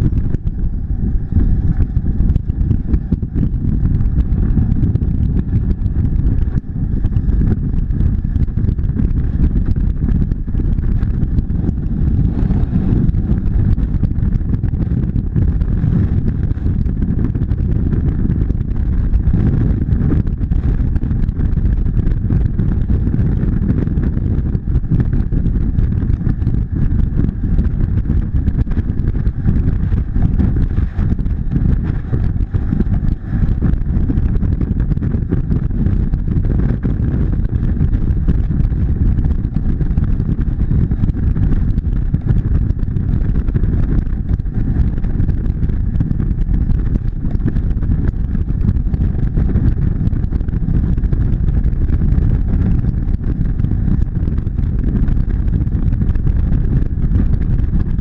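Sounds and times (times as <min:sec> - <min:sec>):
motorcycle engine droning: 0:00.0 - 0:58.0
wind rushing on microphone: 0:00.0 - 0:58.0.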